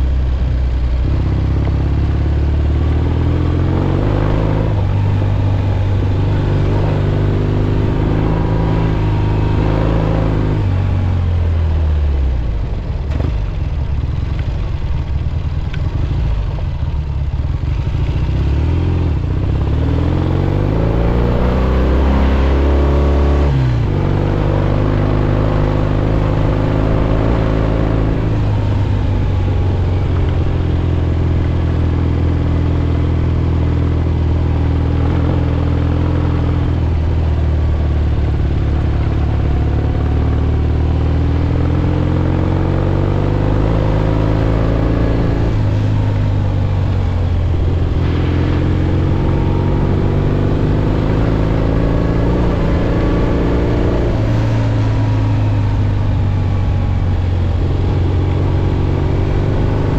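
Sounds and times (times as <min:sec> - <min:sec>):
motorcycle engine: 0:00.0 - 0:59.9
road and wind noise: 0:00.0 - 0:59.9.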